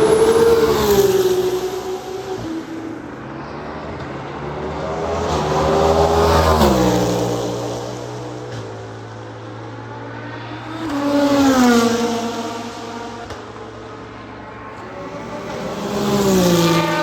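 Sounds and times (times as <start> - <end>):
race cars passing at high speed: 0.0 - 17.0.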